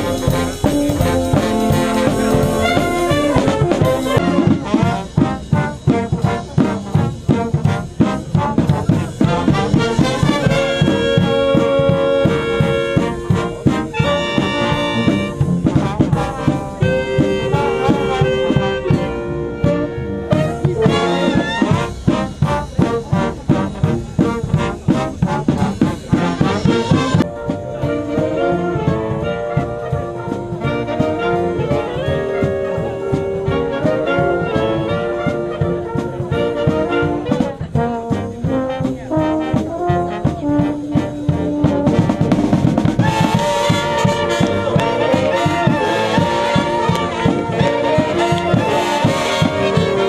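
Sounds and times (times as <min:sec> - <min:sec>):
wind band playing: 0:00.0 - 0:50.0.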